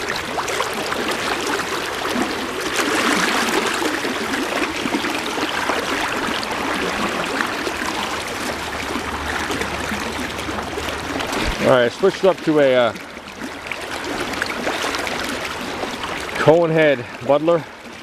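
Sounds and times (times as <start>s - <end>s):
river water flowing fast: 0.0s - 18.0s.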